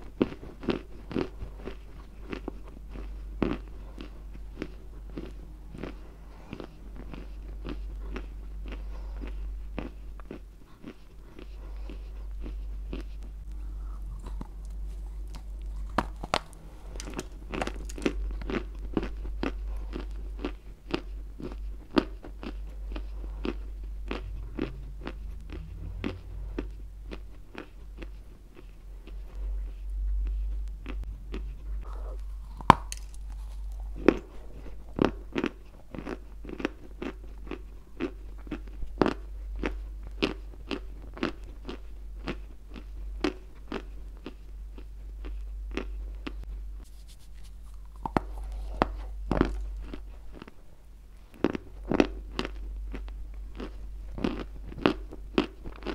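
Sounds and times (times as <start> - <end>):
chalk being chewed crunching: 0.0 - 50.6, 51.2 - 55.9.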